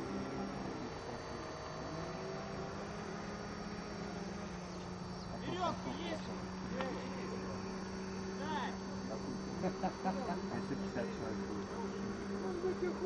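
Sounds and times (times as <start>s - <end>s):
steady low hum: 0.0s - 13.0s
faint distant voices: 0.8s - 13.0s.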